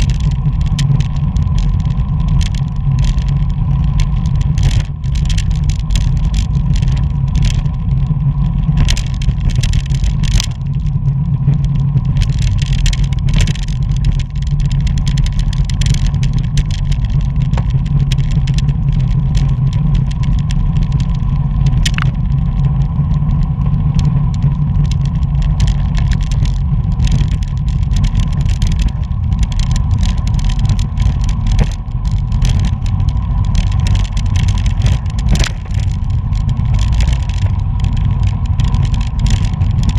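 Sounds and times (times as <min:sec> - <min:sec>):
bicycle clicks and rattles: 0:00.0 - 0:39.9
wind and road noise: 0:00.0 - 0:39.9.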